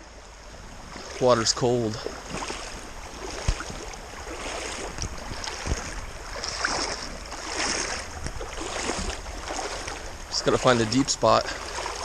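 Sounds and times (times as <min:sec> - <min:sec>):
river current rushing: 0:00.0 - 0:12.0
water splashing around wading legs: 0:00.7 - 0:12.0.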